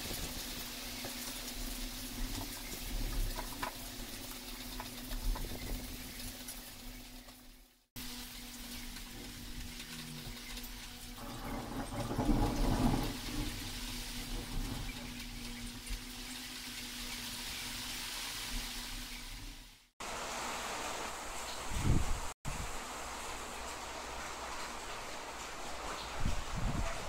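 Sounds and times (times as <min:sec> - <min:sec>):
steady hum and hiss: 0:00.0 - 0:27.0.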